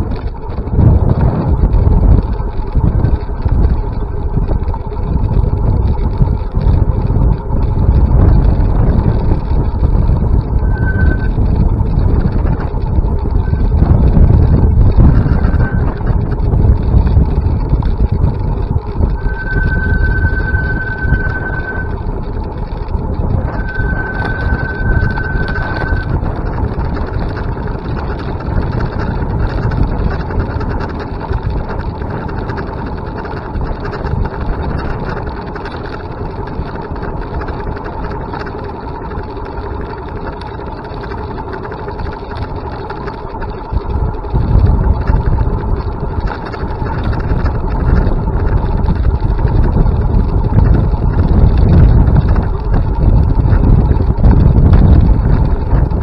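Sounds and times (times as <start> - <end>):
vehicle travel noise with whine: 0.0 - 56.0
wind buffeting microphone: 0.0 - 56.0.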